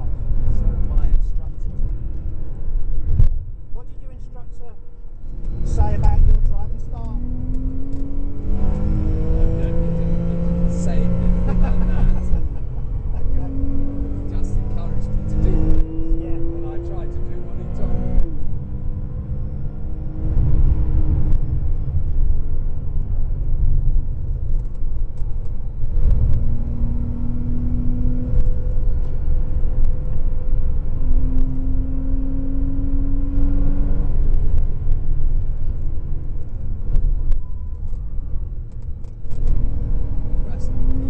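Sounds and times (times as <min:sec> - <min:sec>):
car engine from inside cabin: 0:00.0 - 0:41.0
road and wind noise: 0:00.0 - 0:41.0.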